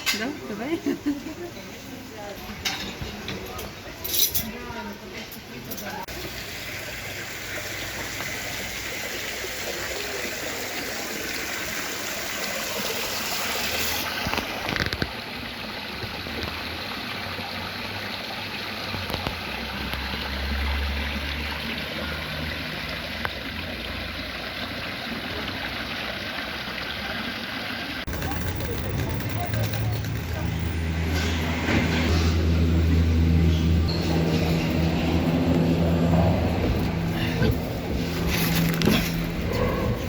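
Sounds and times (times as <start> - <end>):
running water rushing: 0.0 - 40.0.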